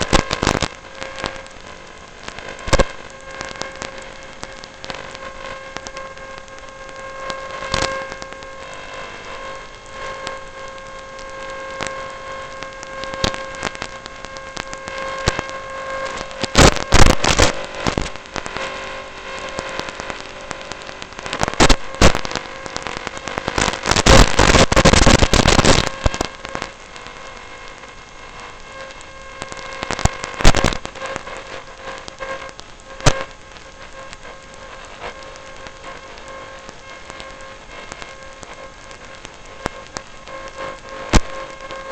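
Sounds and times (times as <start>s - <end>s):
loud crackling bursts: 0.0s - 41.9s.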